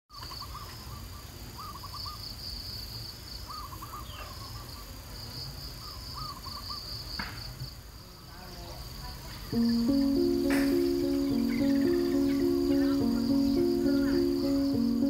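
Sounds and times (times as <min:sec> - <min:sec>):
insects trilling: 0:01.6 - 0:15.0.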